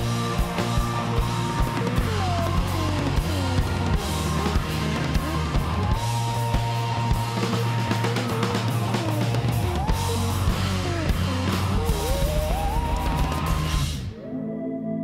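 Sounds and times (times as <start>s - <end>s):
drum kit beat: 0.0s - 14.1s
small band playing: 0.0s - 14.2s.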